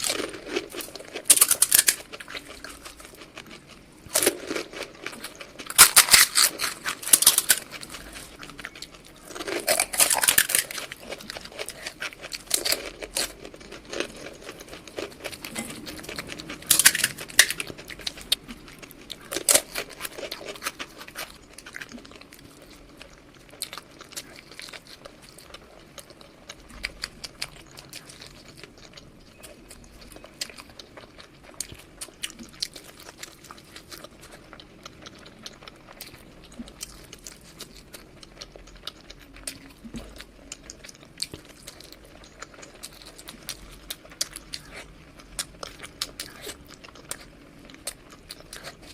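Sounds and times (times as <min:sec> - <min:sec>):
crunchy bites of food: 0:00.0 - 0:48.9
fine chewing clicks: 0:00.0 - 0:48.9.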